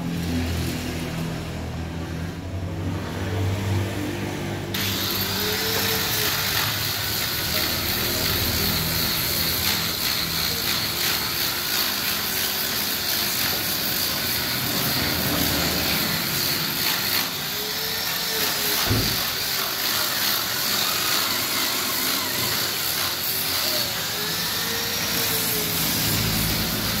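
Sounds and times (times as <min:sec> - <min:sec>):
machine whining and hissing: 0:04.7 - 0:27.0.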